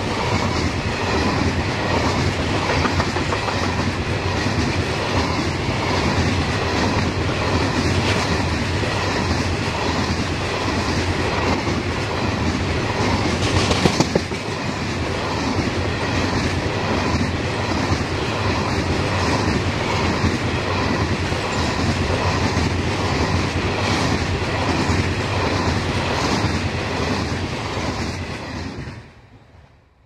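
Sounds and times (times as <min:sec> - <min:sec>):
train wheels rumbling on rail: 0:00.0 - 0:30.0
wheels clickety-clack over joints: 0:00.4 - 0:27.3.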